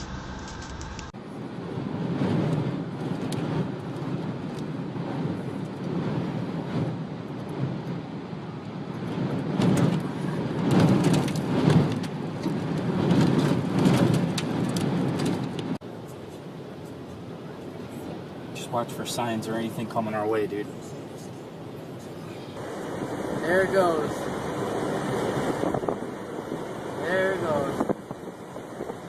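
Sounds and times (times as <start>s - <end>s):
strong wind buffeting microphone: 0.0s - 18.8s, 20.7s - 29.0s.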